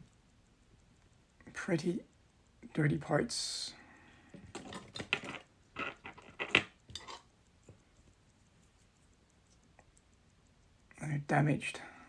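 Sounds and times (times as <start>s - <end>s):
light metallic clicks and taps: 0.0s - 12.0s.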